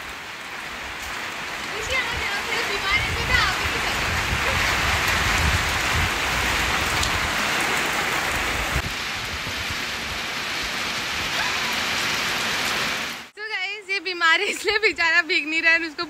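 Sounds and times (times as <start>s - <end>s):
rain on concrete: 0.0s - 16.0s.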